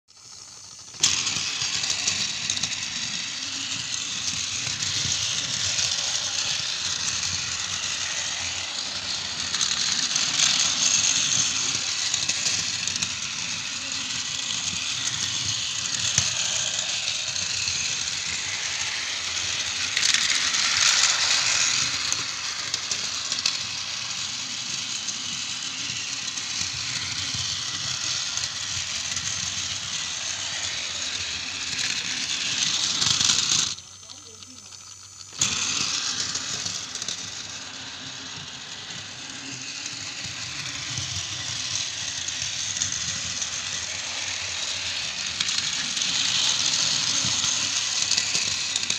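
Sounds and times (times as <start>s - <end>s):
toy train motor whirring: 0.1s - 48.9s
wheels rattling on plastic track: 0.1s - 48.9s.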